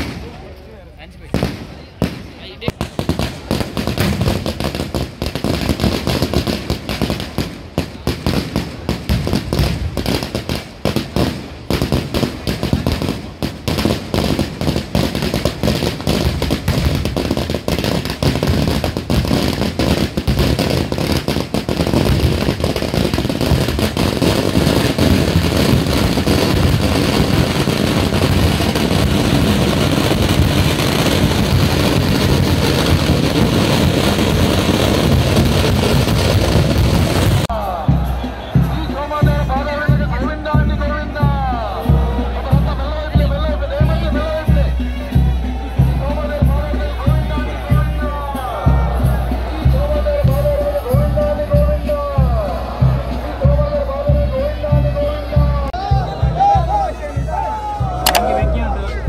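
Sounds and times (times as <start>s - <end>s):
firecrackers banging and crackling: 0.0s - 54.5s.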